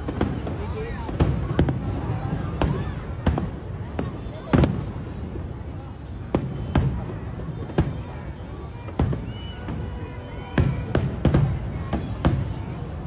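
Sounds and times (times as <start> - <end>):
distant firework bangs: 0.0 - 13.0.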